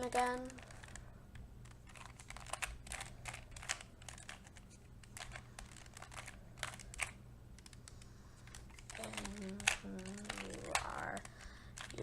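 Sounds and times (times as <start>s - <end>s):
puzzle cube clicking: 0.4s - 12.0s.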